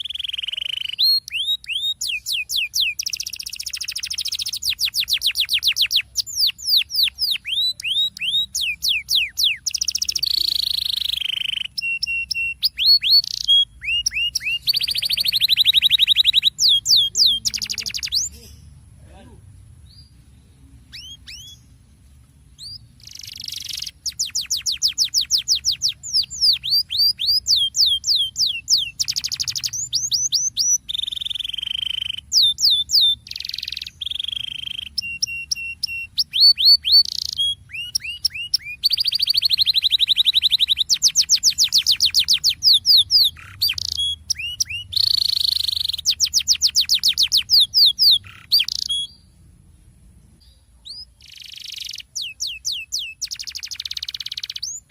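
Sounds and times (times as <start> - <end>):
canary singing: 0.0 - 49.4, 50.4 - 54.9.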